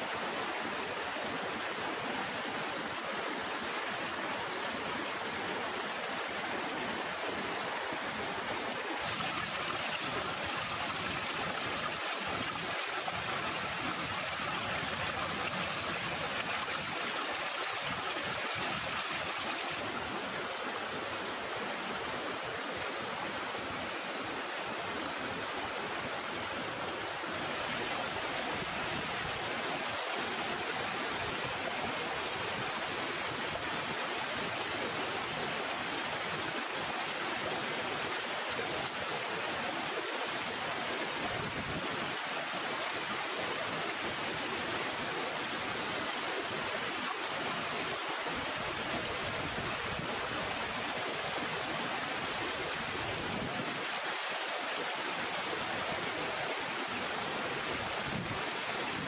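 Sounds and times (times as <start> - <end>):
water rushing over stones: 0.1 - 59.0.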